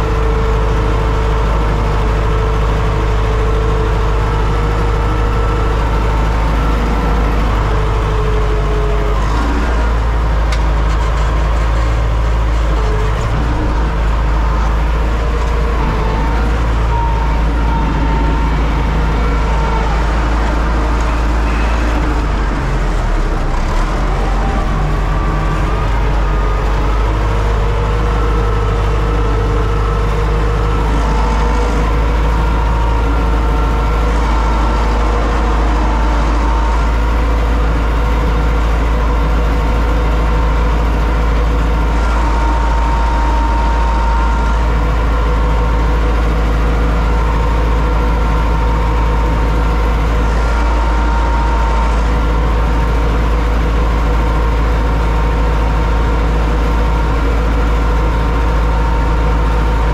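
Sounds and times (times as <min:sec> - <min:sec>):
steady whining tones: 0:00.0 - 0:59.9
tractor diesel engine rumbling: 0:00.0 - 0:59.9.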